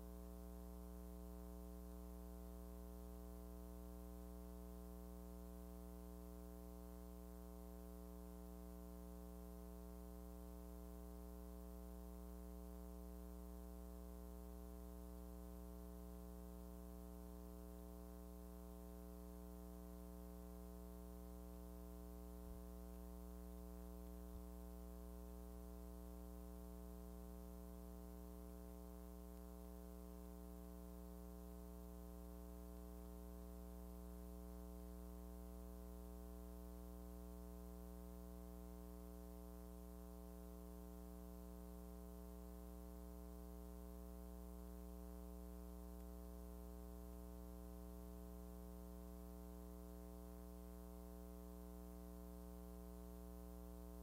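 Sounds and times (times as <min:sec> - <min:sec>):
electrical hum: 0:00.0 - 0:54.0.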